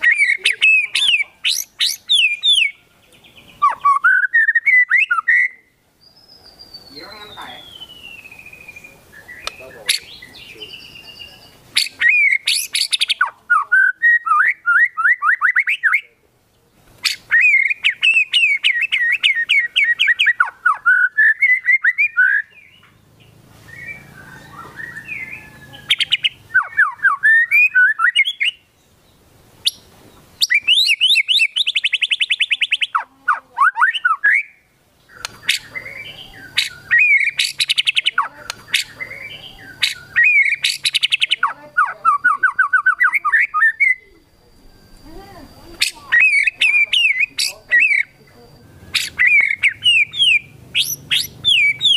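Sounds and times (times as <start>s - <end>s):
bird singing whistled phrases and trills: 0.0s - 51.9s.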